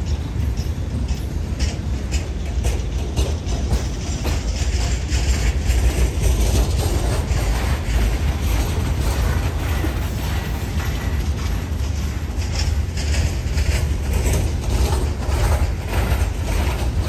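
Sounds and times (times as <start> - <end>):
steel wheels rumbling on rails: 0.0 - 17.0
wheel clacks: 0.0 - 17.0.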